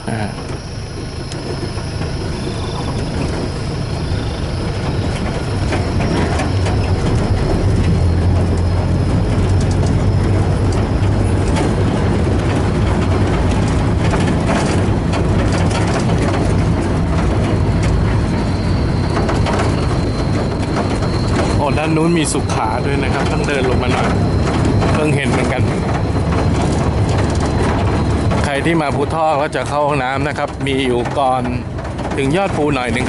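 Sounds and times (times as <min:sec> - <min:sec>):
rattles: 0:00.0 - 0:33.0
road noise rumble: 0:00.0 - 0:33.0
vehicle engine running: 0:00.0 - 0:33.0.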